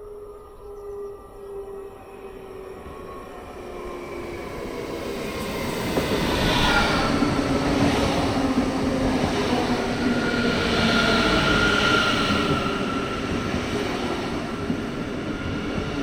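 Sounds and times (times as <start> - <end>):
train wheels rumbling on rail: 2.4 - 16.0.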